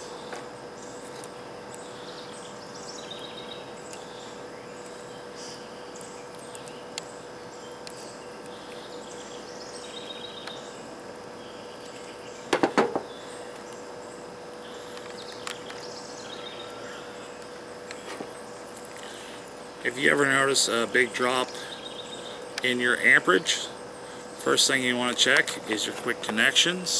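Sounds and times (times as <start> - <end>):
bird and insect chirps: 0.0 - 26.9
steady hum: 0.0 - 26.9.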